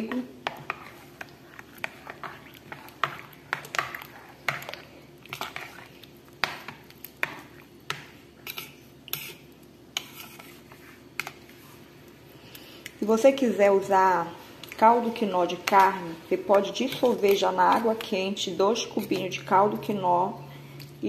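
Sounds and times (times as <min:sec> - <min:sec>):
utensil stirring in bowl: 0:00.0 - 0:11.9, 0:14.6 - 0:20.1.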